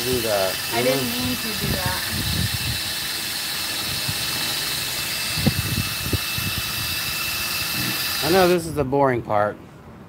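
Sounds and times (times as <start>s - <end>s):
drill motor whine: 0.0s - 8.6s.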